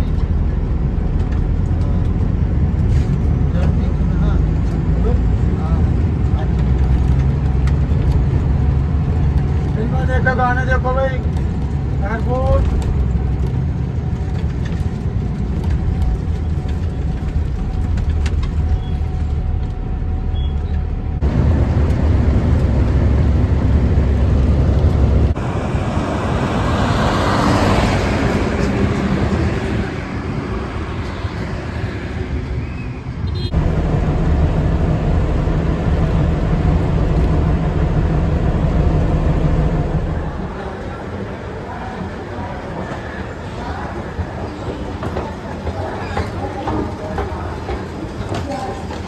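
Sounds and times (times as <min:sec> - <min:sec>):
bus engine and tyre rumble: 0:00.0 - 0:49.0
passing traffic: 0:00.0 - 0:49.0.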